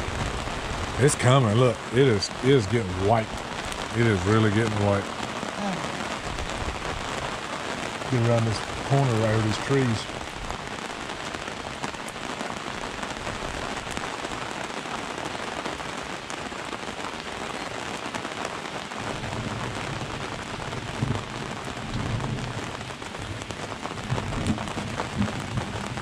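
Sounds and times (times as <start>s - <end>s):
rain pattering on canopy and lake: 0.0s - 26.0s.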